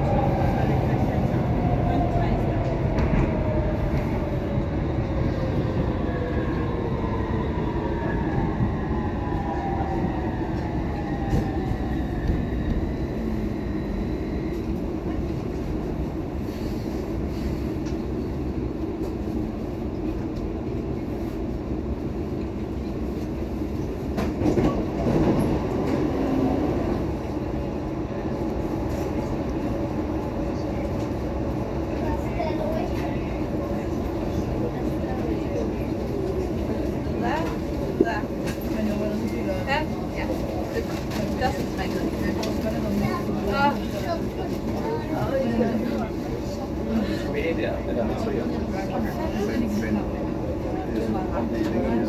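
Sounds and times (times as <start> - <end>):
train rumbling on rails: 0.0 - 52.0.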